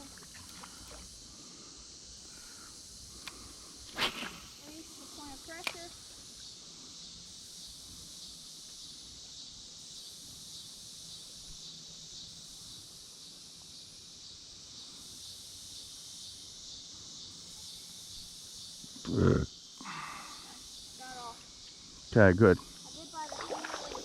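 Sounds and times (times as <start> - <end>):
insects chorus: 0.0 - 24.0.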